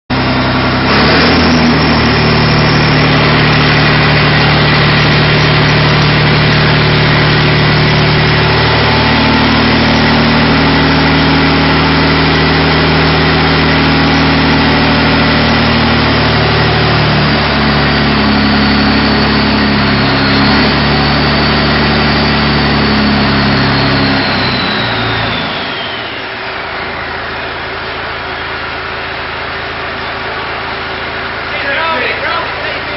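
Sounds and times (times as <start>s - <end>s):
high whine falling in pitch: 0.1s - 28.9s
pump engine running: 0.1s - 32.9s.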